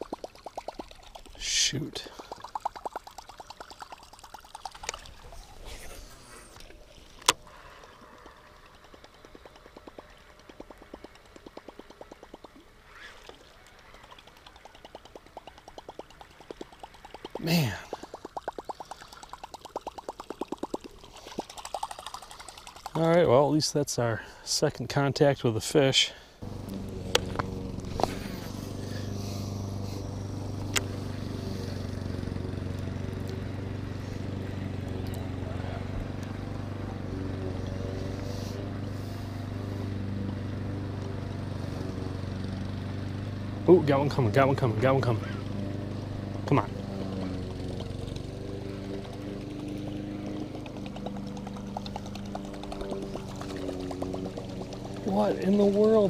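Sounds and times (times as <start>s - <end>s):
low motor hum: 0.0s - 23.3s, 26.3s - 56.0s.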